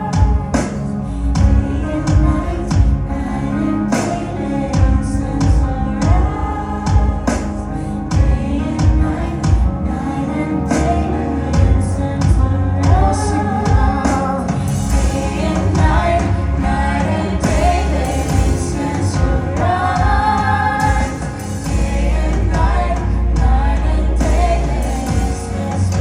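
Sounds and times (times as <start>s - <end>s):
steady bass: 0.0s - 26.0s
voices singing gospel: 0.0s - 26.0s.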